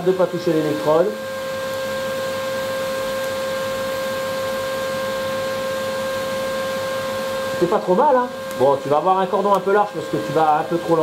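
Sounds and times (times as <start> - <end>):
welding arc buzzing: 0.0 - 11.0.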